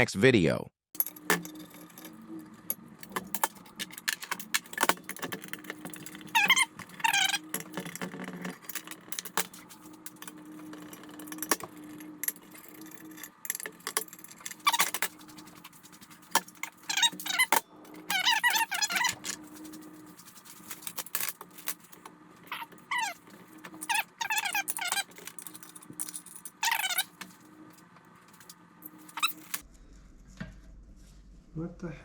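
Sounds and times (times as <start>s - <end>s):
high-pitched metal squeals: 1.0s - 27.6s
metal tools clinking: 1.0s - 29.6s.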